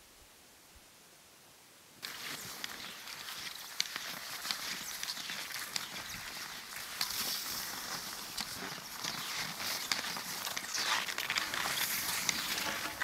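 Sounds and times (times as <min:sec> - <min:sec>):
ski poles crunching in snow: 0:02.0 - 0:13.0
skis sliding on snow: 0:02.0 - 0:13.0.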